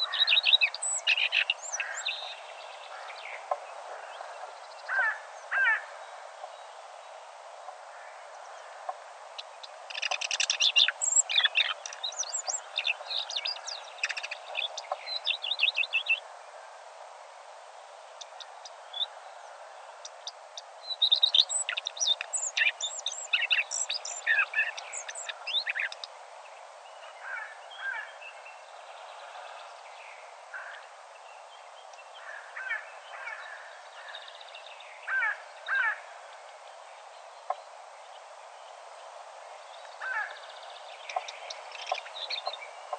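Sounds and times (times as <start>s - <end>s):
birds chirping and trilling: 0.0s - 7.2s, 7.9s - 16.3s, 18.1s - 42.9s
steady background hiss: 0.0s - 42.9s.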